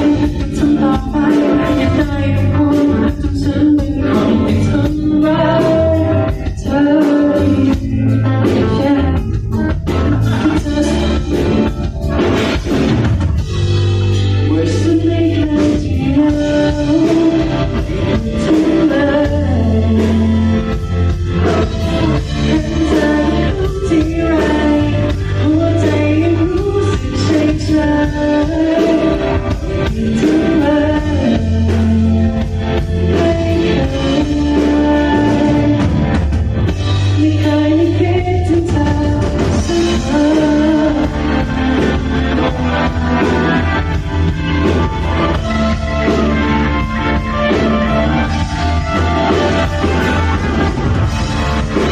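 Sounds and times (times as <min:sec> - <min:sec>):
live band with singer: 0:00.0 - 0:51.9.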